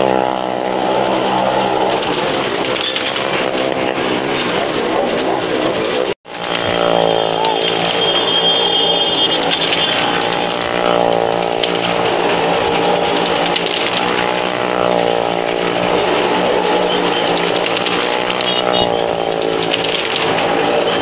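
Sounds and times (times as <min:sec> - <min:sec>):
car and motorcycle engines revving: 0:00.0 - 0:21.0.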